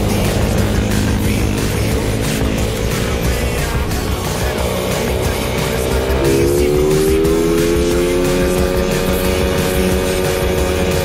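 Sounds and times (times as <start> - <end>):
atv engine running: 0.0 - 11.0
background music: 0.0 - 11.0.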